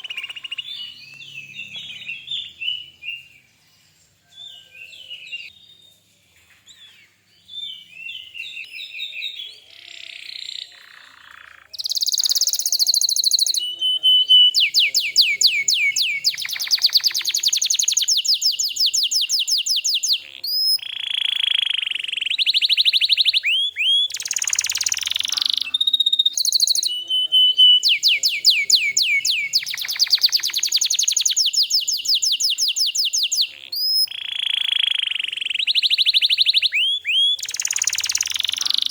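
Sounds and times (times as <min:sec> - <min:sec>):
canary singing: 0:00.0 - 0:05.6, 0:07.6 - 0:38.9.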